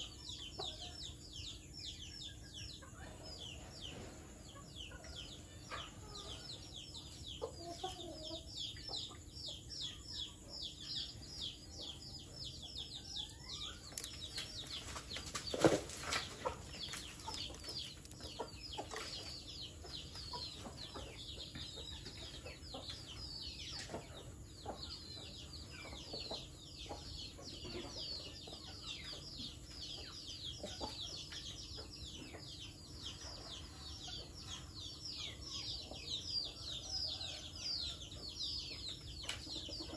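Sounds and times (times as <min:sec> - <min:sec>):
chickens clucking: 0:00.0 - 0:39.9
chicks chirping and peeping: 0:00.0 - 0:39.9.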